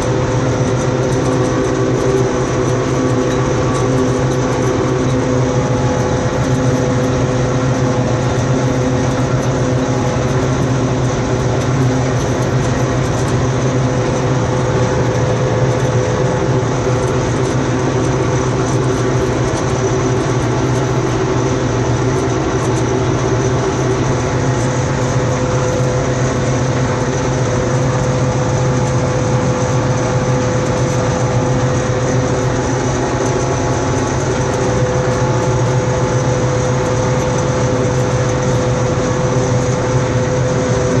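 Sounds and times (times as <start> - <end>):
combine harvester droning: 0.0 - 41.0
mid-pitched machinery whine: 0.0 - 41.0.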